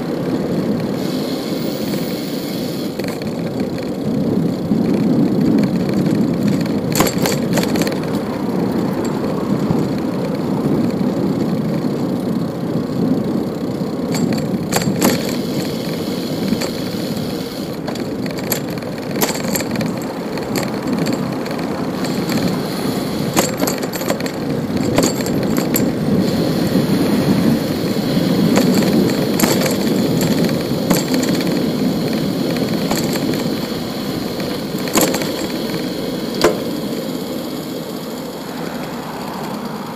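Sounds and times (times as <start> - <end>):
bicycle clicks and rattles: 0.0 - 39.9
bicycle tyre road rumble: 0.0 - 39.9.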